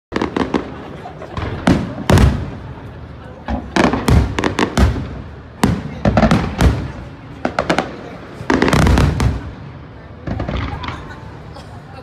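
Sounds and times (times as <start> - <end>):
fireworks bursting with sharp bangs: 0.1 - 11.5.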